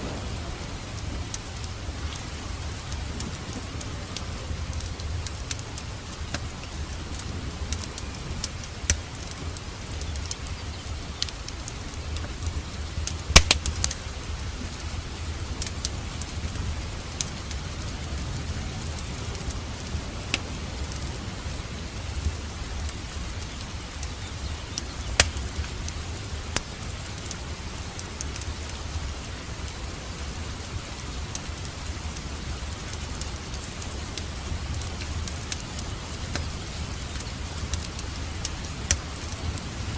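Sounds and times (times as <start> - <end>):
sharp pops from fire: 0.0 - 21.2, 21.9 - 29.8, 30.9 - 39.9
fireplace crackling: 0.0 - 39.9
steady rain: 0.0 - 39.9.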